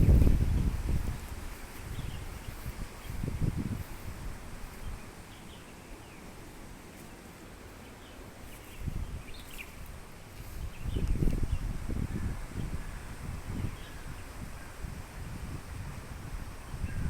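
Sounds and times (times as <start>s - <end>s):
wind buffeting microphone: 0.0s - 5.5s, 8.4s - 17.0s
birds chirping: 0.0s - 14.8s.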